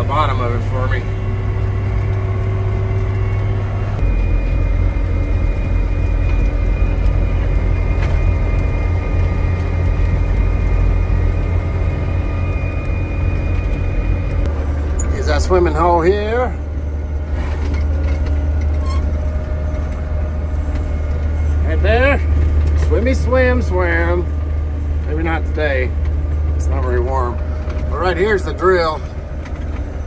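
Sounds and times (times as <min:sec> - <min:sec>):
tractor engine drone: 0:00.0 - 0:30.0.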